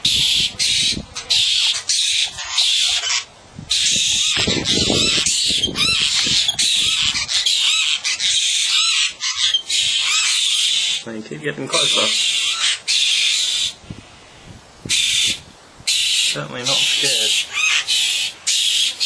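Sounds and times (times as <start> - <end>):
birds squawking: 0.0 - 13.8, 14.8 - 19.0.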